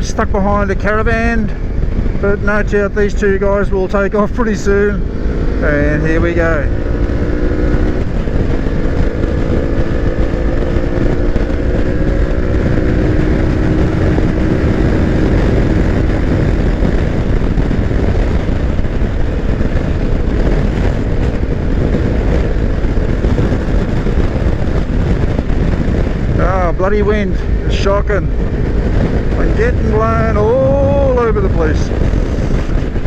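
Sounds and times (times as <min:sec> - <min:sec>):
motorcycle engine cruising: 0:00.0 - 0:33.0
wind buffeting microphone: 0:00.0 - 0:33.0.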